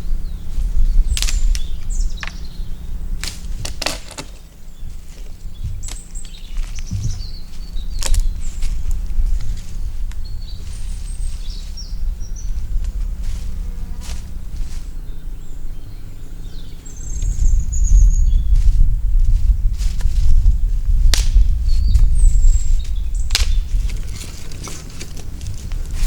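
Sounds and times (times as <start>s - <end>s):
small birds chirping: 0.0s - 26.0s
steady low rumble: 0.0s - 26.0s.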